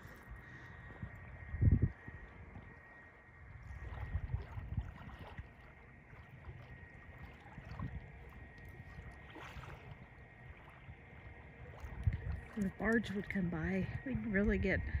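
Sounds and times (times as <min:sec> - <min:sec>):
waves lapping on shore: 0:00.0 - 0:01.4, 0:03.6 - 0:14.8
wind on microphone: 0:00.0 - 0:15.0.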